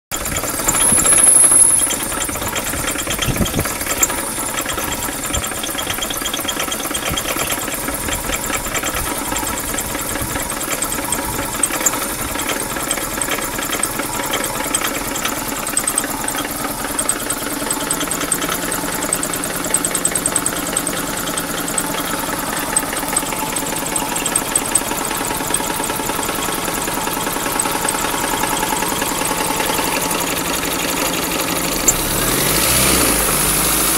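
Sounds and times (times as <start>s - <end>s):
engine running with knock: 0.1s - 33.9s.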